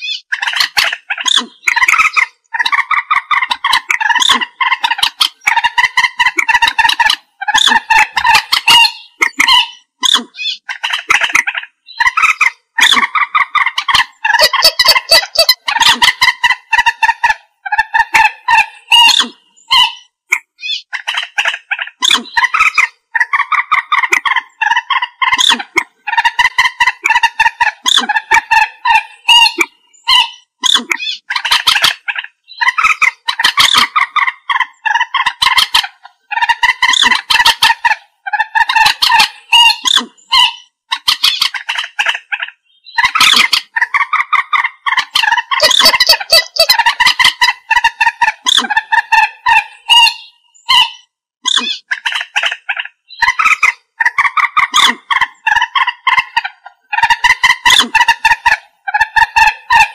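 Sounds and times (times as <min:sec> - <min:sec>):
moorhen calling: 0:00.0 - 0:59.9.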